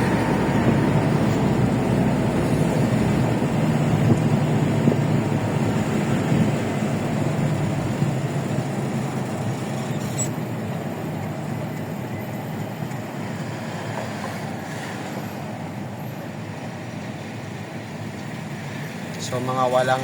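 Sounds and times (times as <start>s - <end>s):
vehicle road and wind noise: 0.0s - 20.0s.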